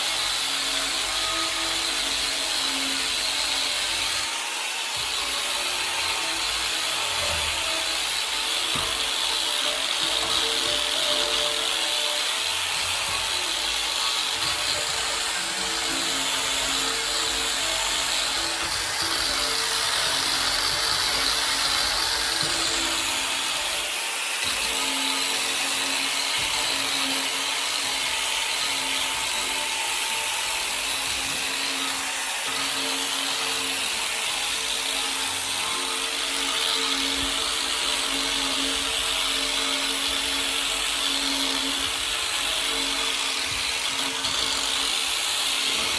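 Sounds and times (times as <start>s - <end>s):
sanding wheel grinding metal: 0.0s - 45.9s.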